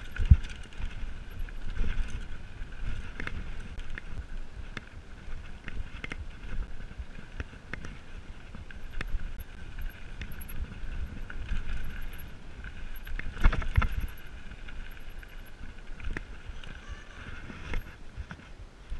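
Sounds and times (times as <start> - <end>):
bike rattling over stones: 0.0 - 18.9
bike tyres rumbling on dirt: 0.0 - 18.9.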